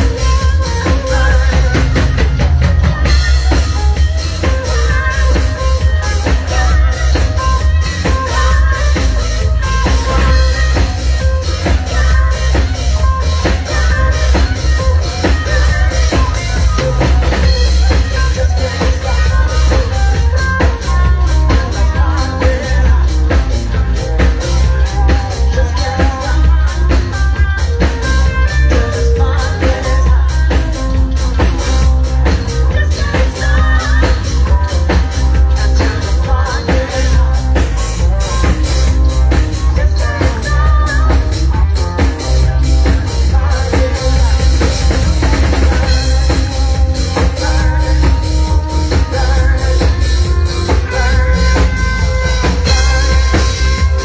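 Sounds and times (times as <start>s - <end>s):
drum kit steady beat: 0.0s - 54.0s
heavy bass: 0.0s - 54.0s
rock band playing: 0.0s - 54.0s.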